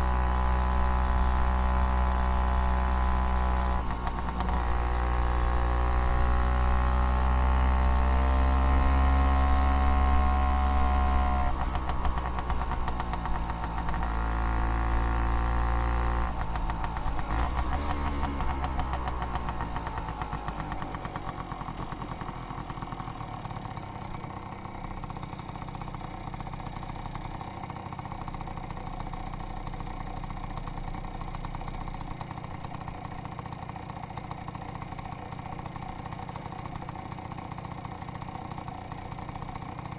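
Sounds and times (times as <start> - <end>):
scooter engine revving and idling: 0.0 - 39.9.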